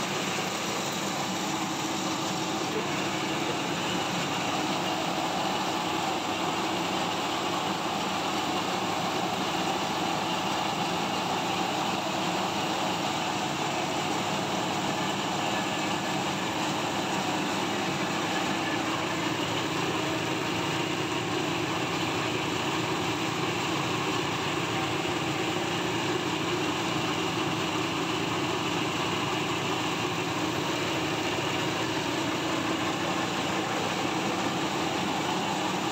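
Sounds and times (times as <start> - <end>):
milling machine droning: 0.0 - 35.9.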